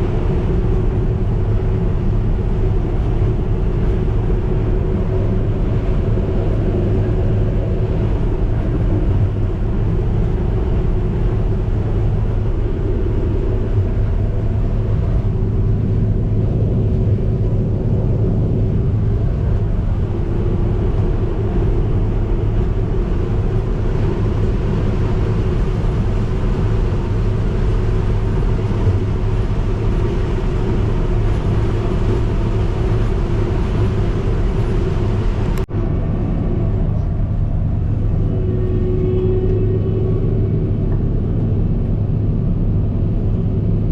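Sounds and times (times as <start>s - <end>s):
combine harvester engine humming: 0.0s - 43.9s.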